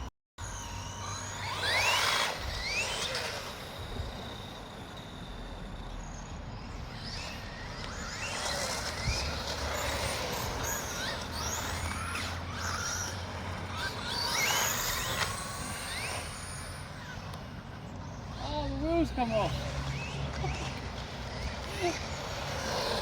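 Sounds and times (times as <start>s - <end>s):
electric motor whining: 0.4s - 23.0s.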